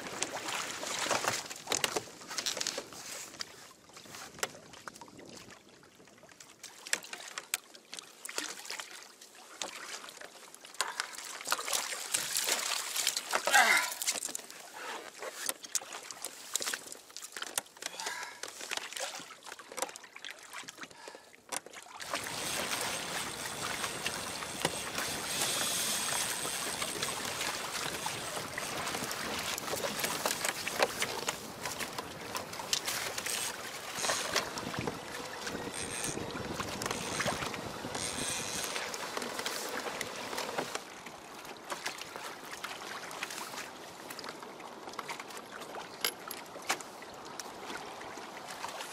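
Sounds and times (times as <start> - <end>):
rushing water and wind: 0.0 - 48.9
small water splashes: 0.0 - 48.9.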